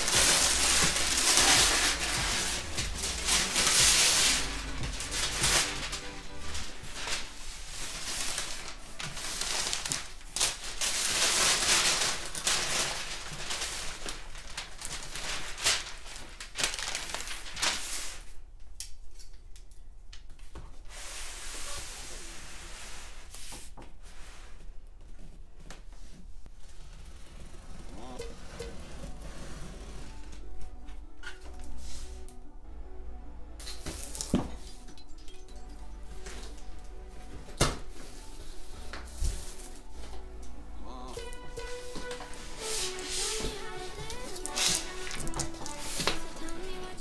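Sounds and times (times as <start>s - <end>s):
wrapping paper tearing and rustling: 0.0s - 18.5s, 26.6s - 32.4s, 33.6s - 47.0s.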